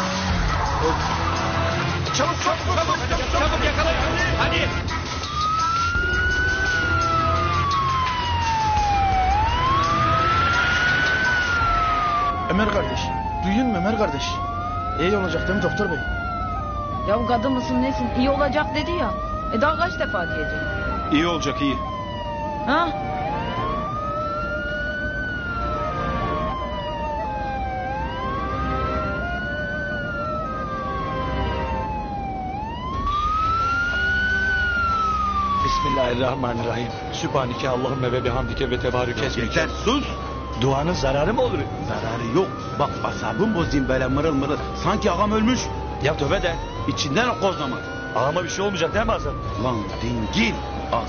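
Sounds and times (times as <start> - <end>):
ambulance siren wailing: 0.0 - 51.0
low rumble of moving vehicle: 0.0 - 51.0.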